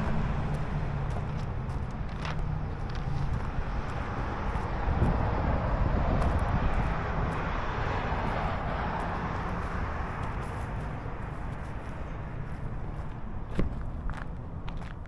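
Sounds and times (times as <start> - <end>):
distant engine passing by: 0.0 - 14.6.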